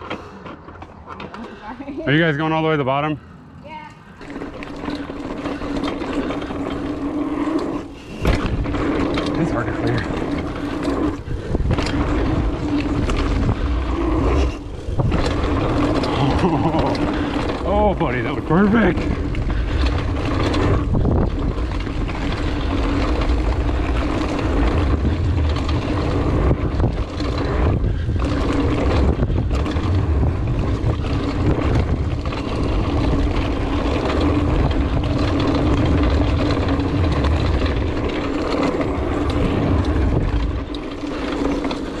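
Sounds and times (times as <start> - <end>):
bike tyres rolling over dirt: 0.0 - 42.0
wind buffeting microphone: 4.3 - 42.0.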